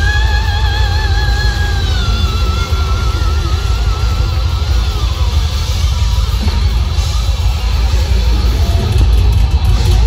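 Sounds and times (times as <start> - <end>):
heavy metal band playing live: 0.0 - 10.0.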